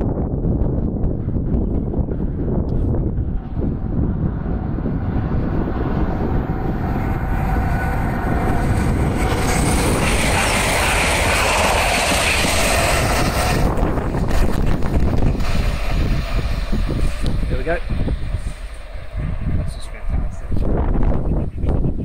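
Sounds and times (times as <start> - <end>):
wind buffeting microphone: 0.0 - 22.0
train rushing past: 0.1 - 21.5.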